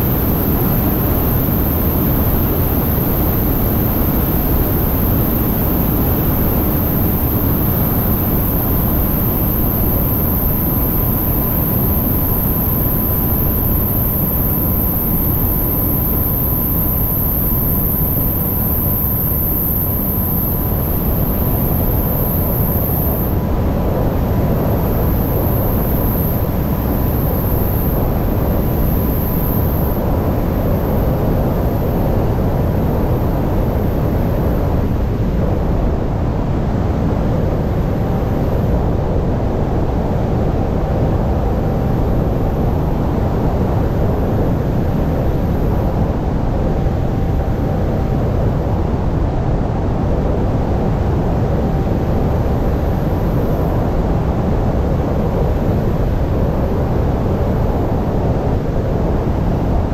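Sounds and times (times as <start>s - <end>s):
light aircraft engine in cockpit: 0.0s - 59.9s.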